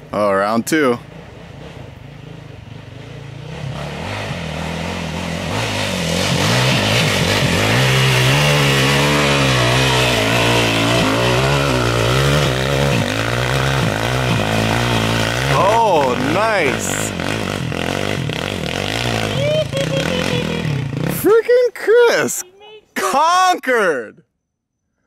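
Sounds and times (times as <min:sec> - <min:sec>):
dirt bike engine revving: 0:01.0 - 0:22.4.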